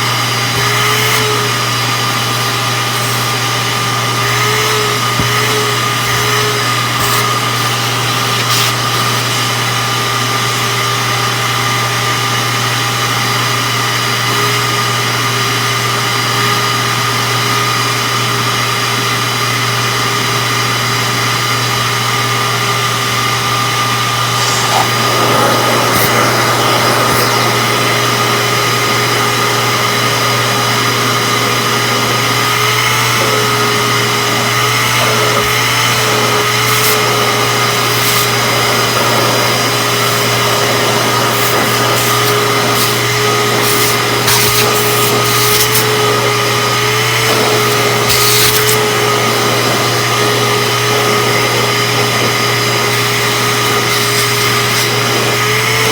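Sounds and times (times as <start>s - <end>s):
wet dry vacuum running: 0.0s - 55.9s.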